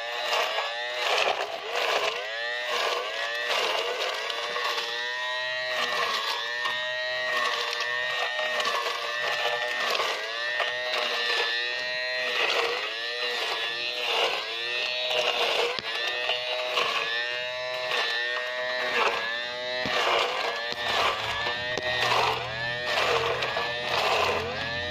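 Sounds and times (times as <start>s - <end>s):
electric grass cutter whining: 0.0s - 24.9s
small electric motor buzzing: 0.0s - 24.9s.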